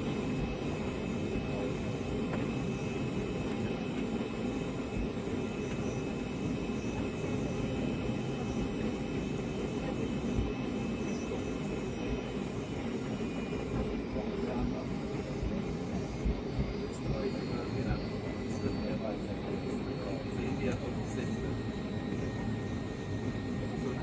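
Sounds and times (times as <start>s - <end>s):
airliner cabin engine noise: 0.0s - 24.0s
faint steady whine: 0.0s - 24.0s.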